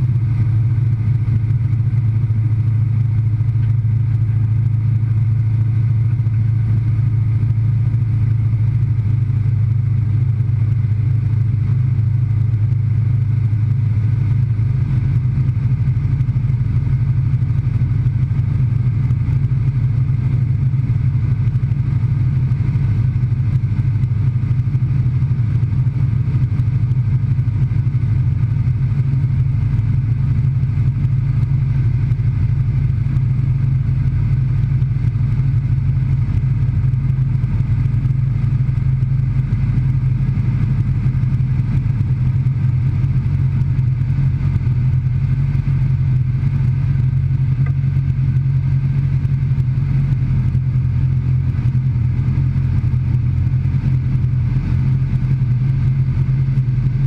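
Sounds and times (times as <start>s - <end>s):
propeller engine running steadily: 0.0s - 57.0s.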